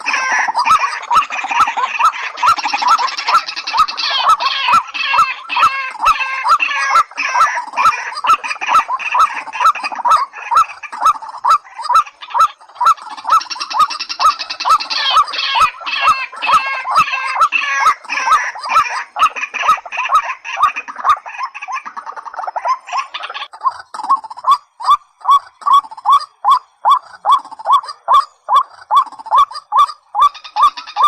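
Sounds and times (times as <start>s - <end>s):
bird clucking calls: 0.0s - 31.0s.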